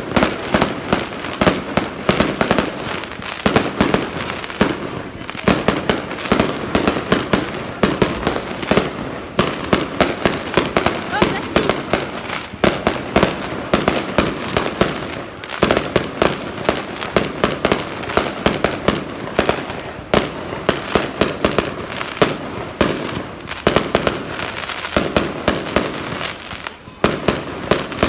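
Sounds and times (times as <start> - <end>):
fireworks bangs and cracks: 0.0 - 28.0.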